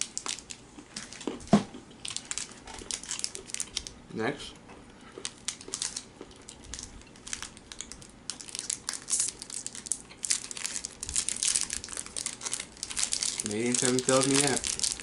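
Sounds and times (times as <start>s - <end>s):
wrapper crinkling: 0.0s - 1.4s, 2.0s - 4.0s, 5.2s - 15.0s.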